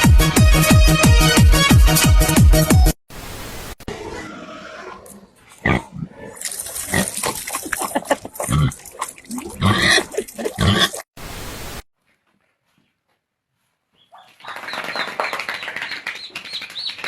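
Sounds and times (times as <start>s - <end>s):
background noise: 3.1s - 17.0s.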